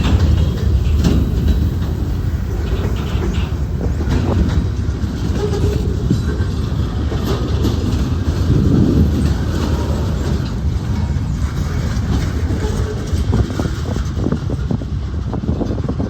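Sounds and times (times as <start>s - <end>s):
freight train rolling past: 0.0s - 16.0s
wheels clicking over rail joints: 0.0s - 16.0s.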